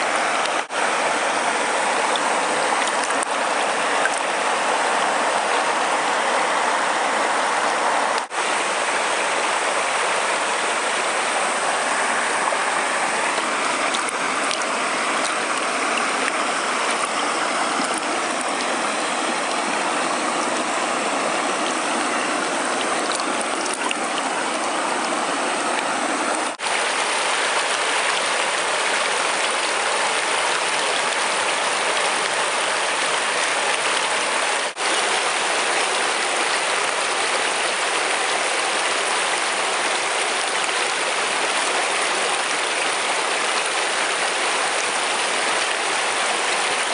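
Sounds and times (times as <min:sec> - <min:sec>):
river water rushing over rocks: 0:00.0 - 0:46.9.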